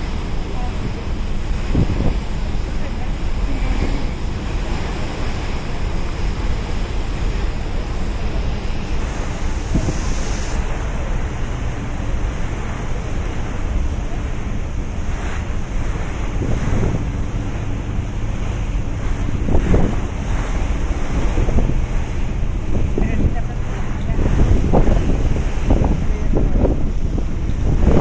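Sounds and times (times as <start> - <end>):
water washing along hull: 0.0 - 28.0
wind buffeting microphone: 0.0 - 28.0.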